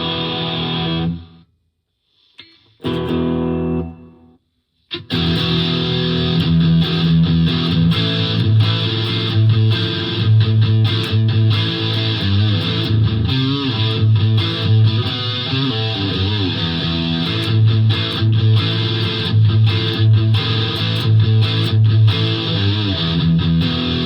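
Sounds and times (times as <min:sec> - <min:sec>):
electric guitar lead lines with bends: 0:00.0 - 0:01.4, 0:02.8 - 0:24.0.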